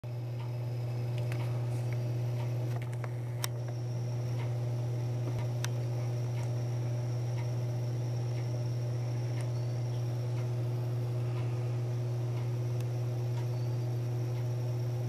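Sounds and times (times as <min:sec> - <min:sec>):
steady low hum: 0:00.0 - 0:15.0
faint high whine: 0:00.1 - 0:15.0.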